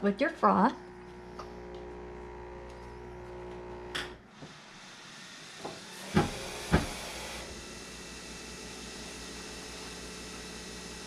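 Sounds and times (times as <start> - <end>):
coffee machine humming: 0.0 - 11.0
coffee machine hiss: 0.8 - 11.0.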